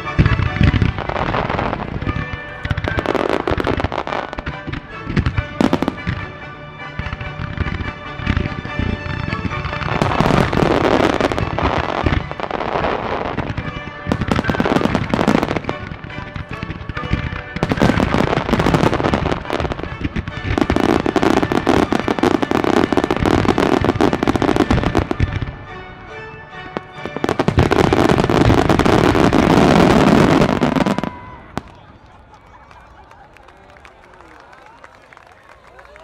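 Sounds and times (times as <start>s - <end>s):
music from loudspeakers: 0.0s - 31.1s
fireworks bursting and crackling: 0.0s - 35.0s.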